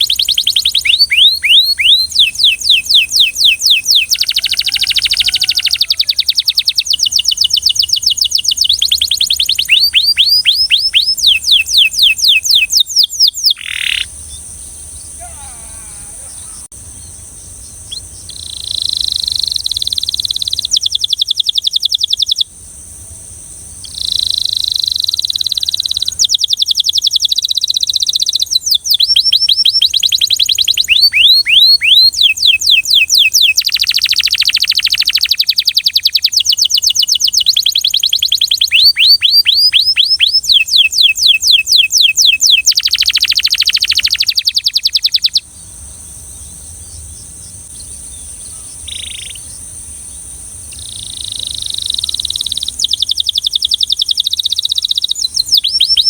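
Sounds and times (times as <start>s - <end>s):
canary singing trills: 0.0s - 22.5s, 23.8s - 56.0s.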